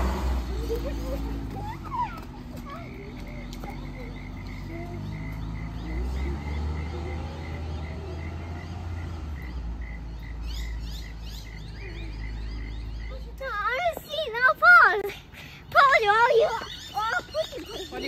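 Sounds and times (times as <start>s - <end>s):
birds calling: 0.0s - 18.0s
low traffic rumble: 0.0s - 18.0s.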